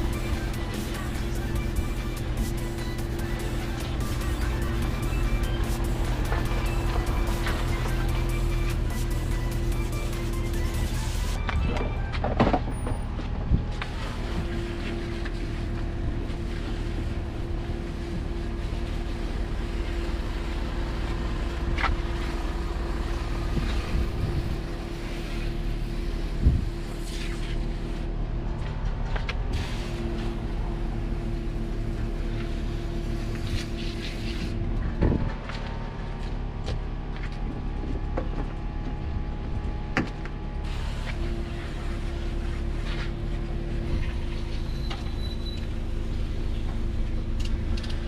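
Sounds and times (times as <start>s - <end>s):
engine running: 0.0s - 48.0s.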